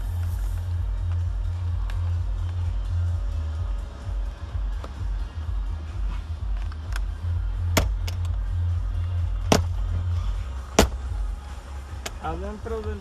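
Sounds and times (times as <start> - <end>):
music with heavy bass beat: 0.0 - 13.0.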